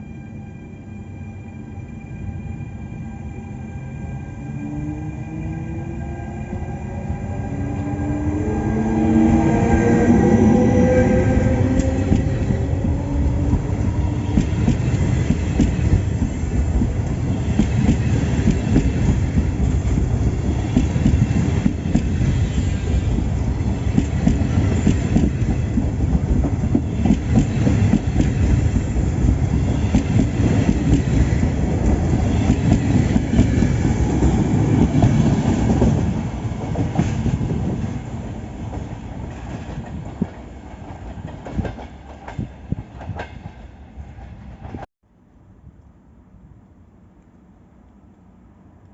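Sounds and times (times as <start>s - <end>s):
train wheels rumbling on rails: 4.6s - 44.9s.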